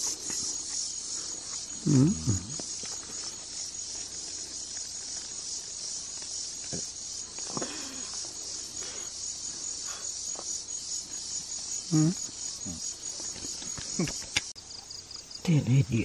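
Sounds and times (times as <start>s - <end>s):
crickets and night insects trilling: 0.0s - 16.0s.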